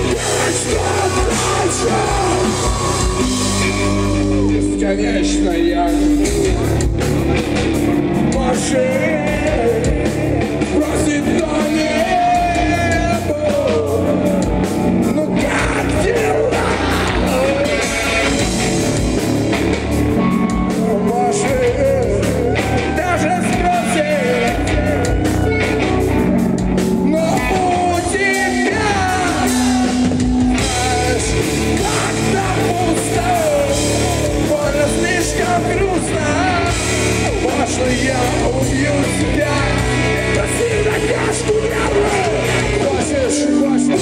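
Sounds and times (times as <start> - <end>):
person singing: 0.0 - 7.0, 8.2 - 18.8, 20.2 - 26.2, 26.8 - 44.0
rock band playing live: 0.0 - 44.0.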